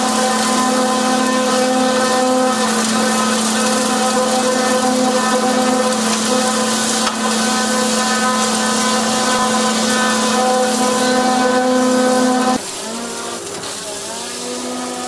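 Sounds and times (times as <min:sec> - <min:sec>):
excavator machinery droning: 0:00.0 - 0:15.0
high-pressure water hissing: 0:00.0 - 0:15.0.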